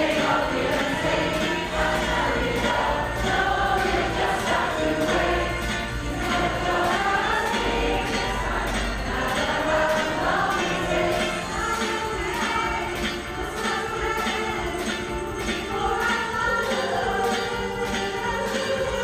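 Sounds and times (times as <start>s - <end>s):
jingling percussion: 0.0s - 19.0s
women's choir singing pop song: 0.0s - 19.0s.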